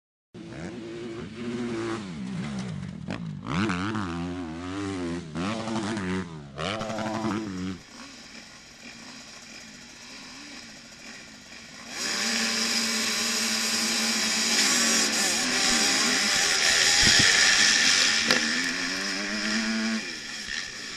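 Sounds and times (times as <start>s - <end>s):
motocross bike engines revving: 0.4s - 20.9s
motorcycles at full throttle: 0.4s - 20.9s.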